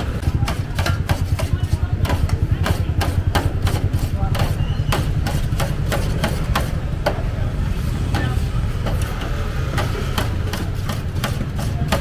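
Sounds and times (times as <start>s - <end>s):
knife chopping on metal pan: 0.0s - 7.4s, 8.0s - 12.0s.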